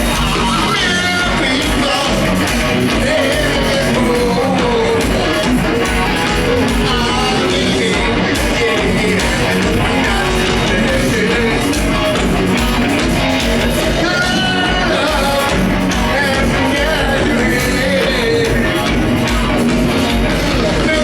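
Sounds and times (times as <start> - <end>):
hard rock band playing: 0.0 - 21.0
lead voice singing: 0.0 - 21.0.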